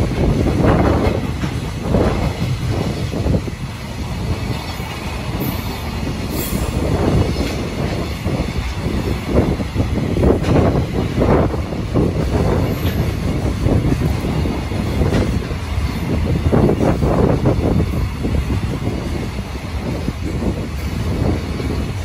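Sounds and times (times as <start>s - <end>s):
freight train rumbling past: 0.0s - 22.0s
wheels clattering over rail joints: 0.0s - 22.0s.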